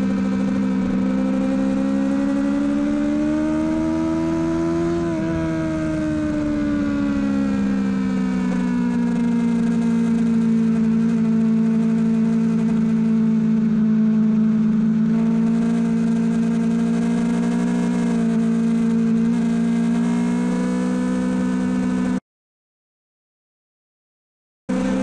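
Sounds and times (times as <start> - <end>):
motorcycle engine revving: 0.0 - 22.2, 24.7 - 25.0.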